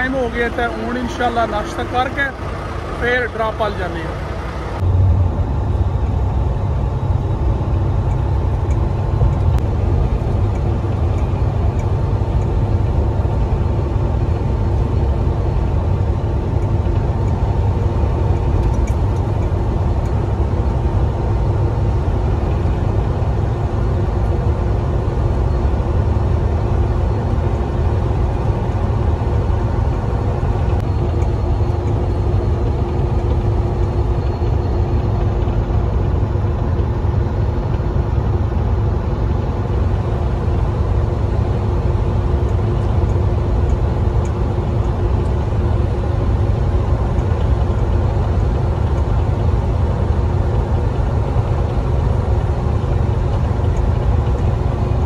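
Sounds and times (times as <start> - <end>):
faint steady whine: 0.0 - 55.0
truck engine and road drone: 0.0 - 55.0.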